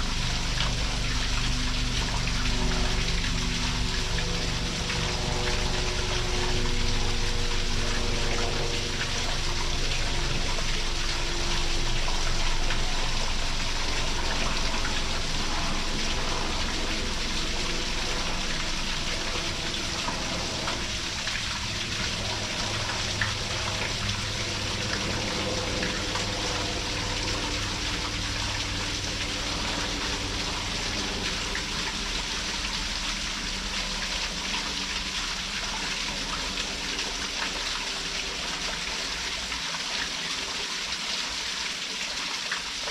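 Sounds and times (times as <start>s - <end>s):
faint low humming tones: 0.0s - 40.5s
waterfall pouring: 0.0s - 42.9s.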